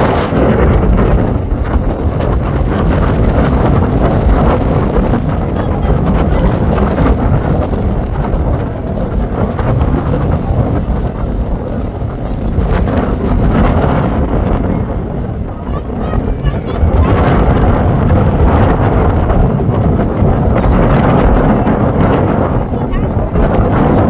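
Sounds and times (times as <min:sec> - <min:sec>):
aircraft engines droning: 0:00.0 - 0:24.0
wind buffeting microphone: 0:00.0 - 0:24.0.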